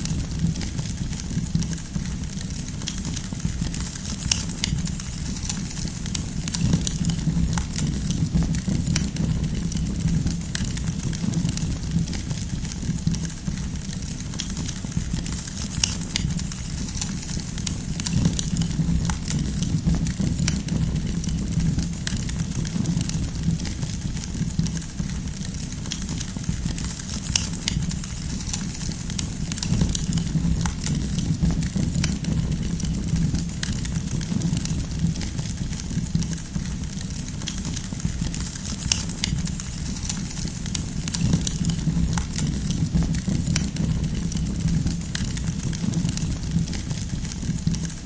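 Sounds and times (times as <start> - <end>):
burning logs crackling and popping: 0.0 - 48.0
fire flames rumbling: 0.0 - 48.0.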